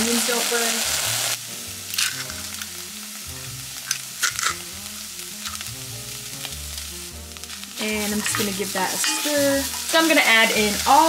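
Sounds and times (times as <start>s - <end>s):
onions sizzling in a pot: 0.0s - 11.0s
soft background music: 0.0s - 11.0s.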